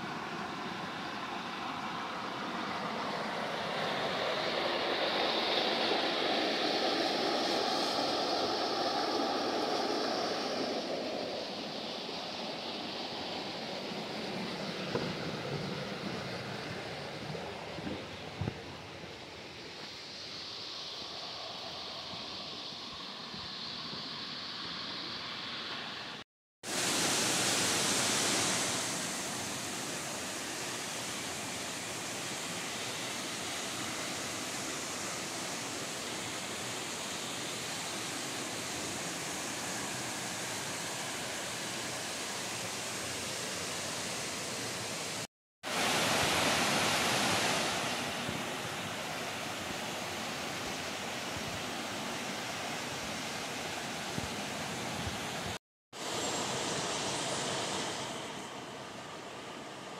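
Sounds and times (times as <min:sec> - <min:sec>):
waterfall and stream rushing: 0:00.0 - 0:20.6, 0:23.6 - 0:58.3.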